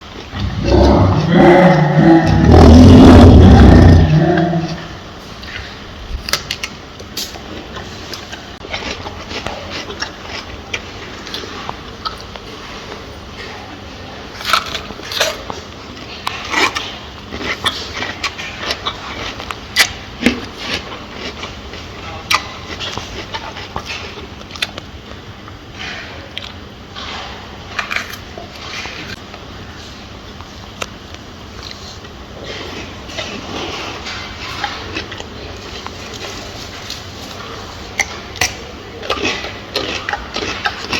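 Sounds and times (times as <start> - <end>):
gorilla chewing food: 0.0 - 29.4, 30.4 - 40.9.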